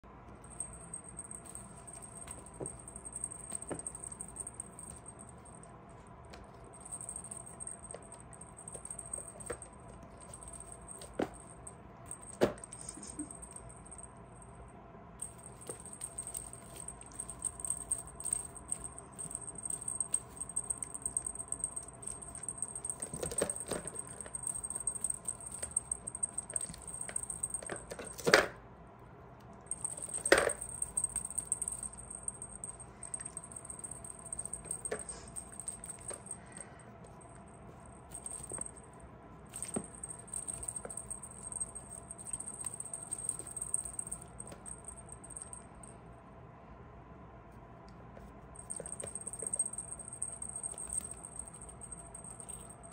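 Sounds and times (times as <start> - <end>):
small bell jingling: 0.4 - 5.7, 6.3 - 14.6, 15.2 - 28.4, 29.7 - 38.9, 39.5 - 46.0, 48.6 - 52.9.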